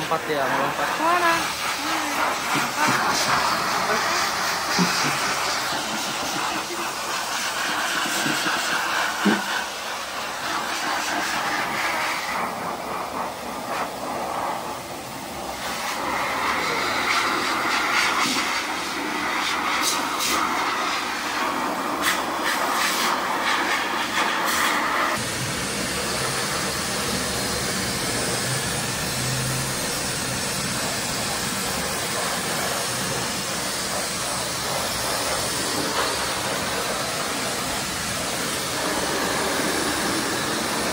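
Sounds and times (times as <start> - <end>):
pet blower rushing air: 0.0 - 40.9.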